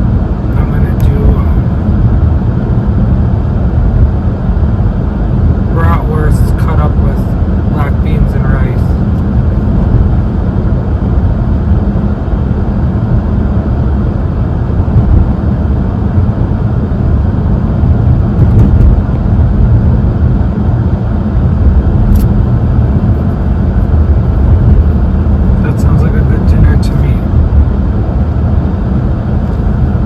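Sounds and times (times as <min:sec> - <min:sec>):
car driving rumble: 0:00.0 - 0:30.0.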